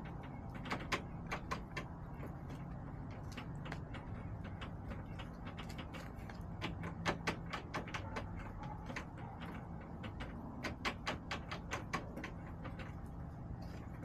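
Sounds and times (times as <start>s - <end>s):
hens pecking on hard surfaces: 0.0s - 14.0s.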